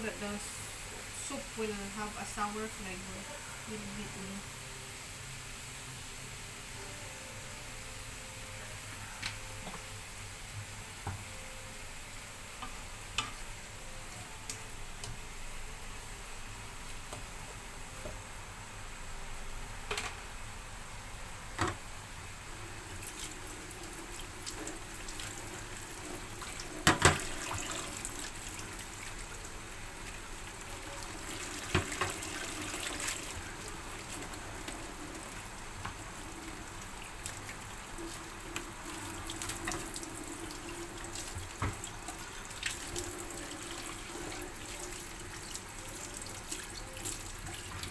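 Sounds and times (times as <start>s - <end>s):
cooking hiss: 0.0s - 47.9s.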